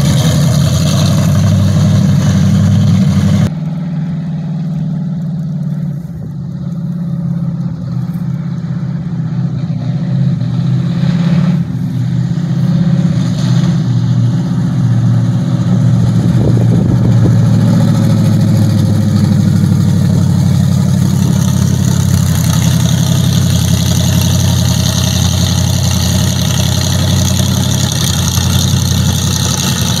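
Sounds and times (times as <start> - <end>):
truck exhaust rumbling: 0.0 - 30.0.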